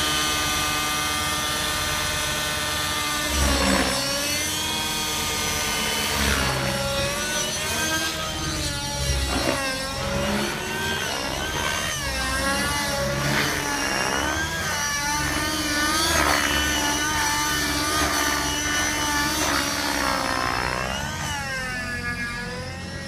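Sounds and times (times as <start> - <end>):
model helicopter rotor whine: 0.0 - 23.0.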